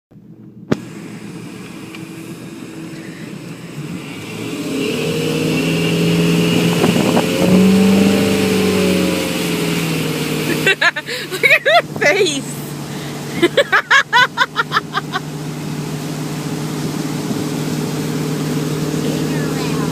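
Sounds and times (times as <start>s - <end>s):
motorboat engine speeding up: 0.2s - 19.9s.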